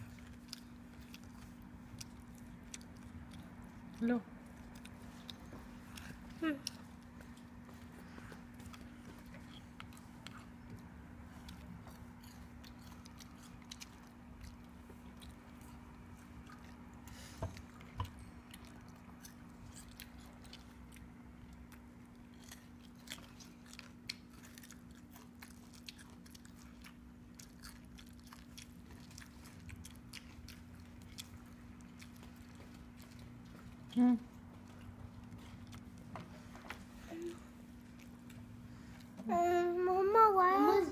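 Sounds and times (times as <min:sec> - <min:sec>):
child chewing with mouth clicks: 0:00.0 - 0:40.9
steady low hum: 0:00.0 - 0:40.9.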